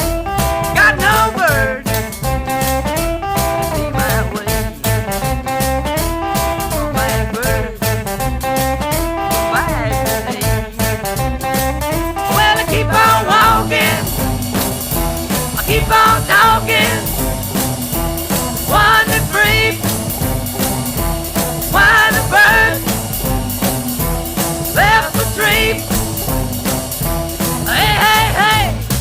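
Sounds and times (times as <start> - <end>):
rock band music: 0.0 - 29.0.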